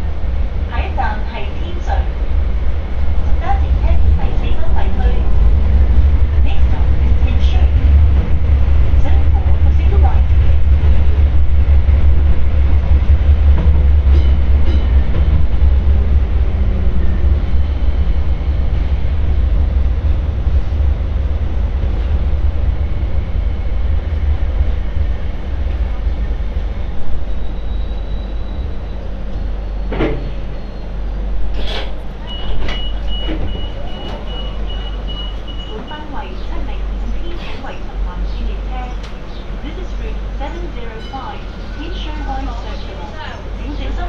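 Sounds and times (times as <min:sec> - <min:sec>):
train rumbling on track: 0:00.0 - 0:44.0.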